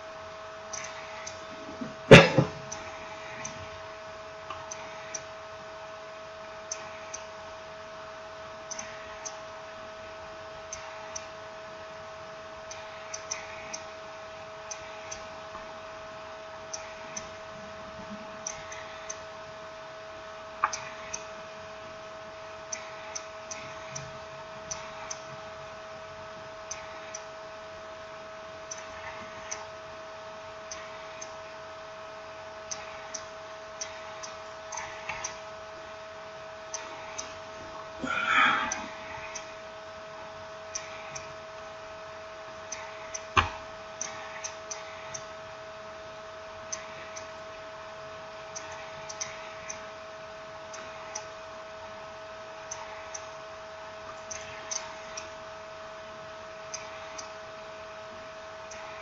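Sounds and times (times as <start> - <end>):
high electrical hum: 0.0 - 59.0.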